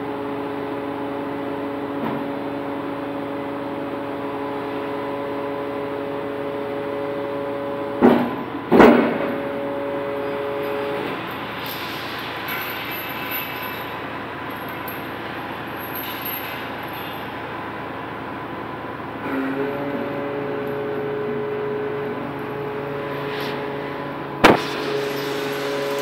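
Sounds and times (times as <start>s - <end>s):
crane hoist humming: 0.0s - 26.0s.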